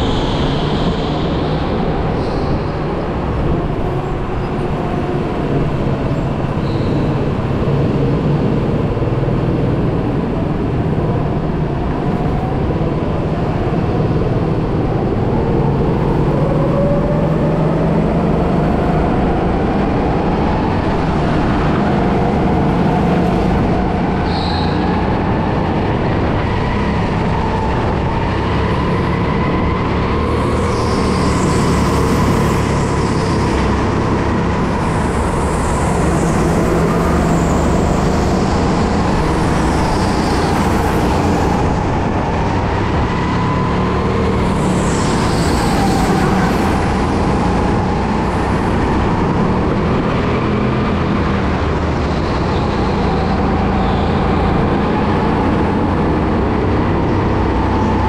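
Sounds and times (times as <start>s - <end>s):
chassis and tyre rumble: 0.0s - 58.0s.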